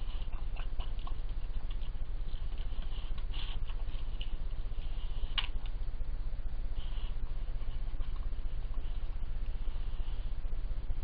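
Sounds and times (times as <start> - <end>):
badgers crunching food: 0.0 - 10.8
steady low hum: 0.0 - 11.0.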